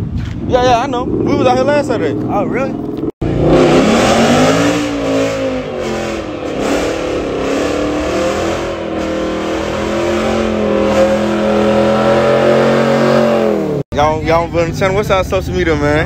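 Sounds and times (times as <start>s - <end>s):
car engine revving: 0.5s - 13.9s.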